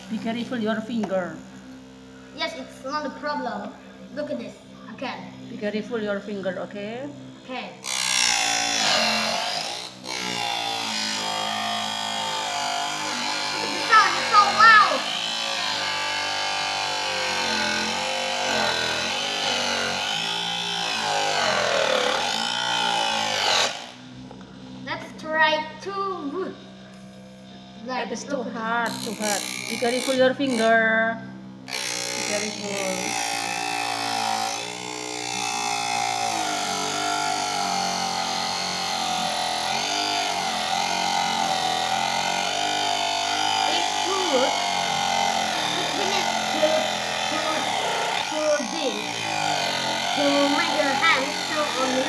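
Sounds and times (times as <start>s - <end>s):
table saw cutting wood: 0.0s - 24.8s, 25.4s - 30.9s, 31.5s - 52.0s.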